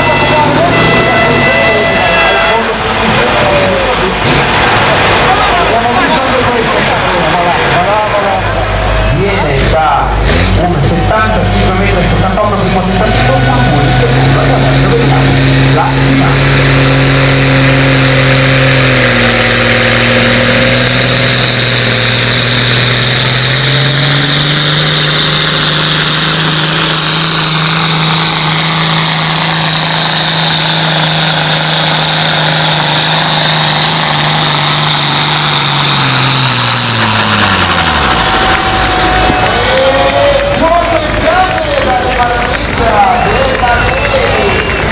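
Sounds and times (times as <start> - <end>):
tractor engine revving hard: 0.0 - 44.9.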